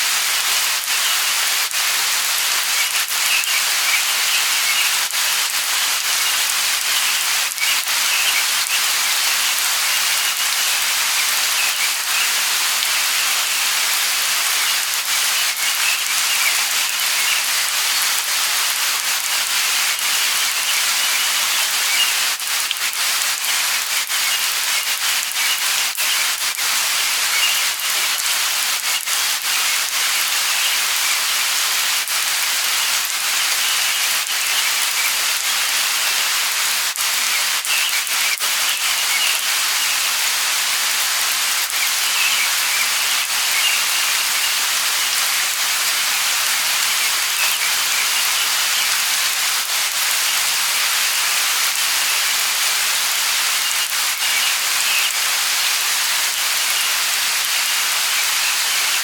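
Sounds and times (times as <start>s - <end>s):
light rain hissing: 0.0s - 59.0s
raindrops ticking nearby: 0.0s - 59.0s.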